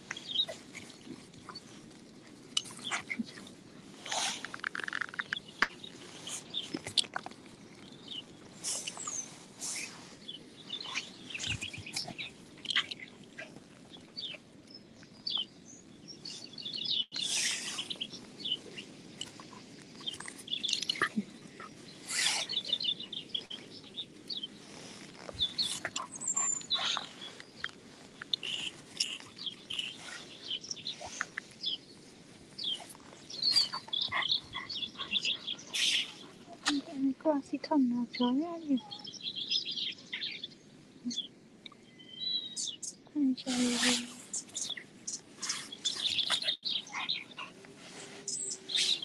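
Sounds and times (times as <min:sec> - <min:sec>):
songbirds chirping and trilling: 0:00.0 - 0:49.0.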